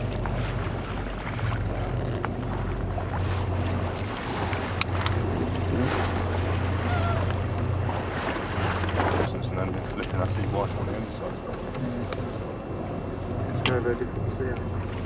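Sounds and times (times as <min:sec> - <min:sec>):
boat engine humming: 0:00.0 - 0:15.0
sea noise: 0:00.0 - 0:15.0
wind: 0:00.0 - 0:15.0.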